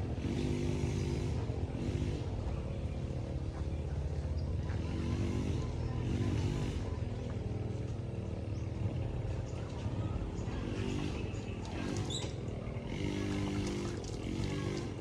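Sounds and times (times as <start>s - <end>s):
engine running with low throb: 0.0s - 15.0s.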